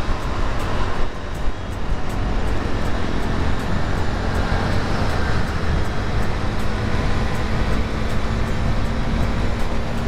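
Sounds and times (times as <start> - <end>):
wind rush on microphone: 0.0 - 10.0.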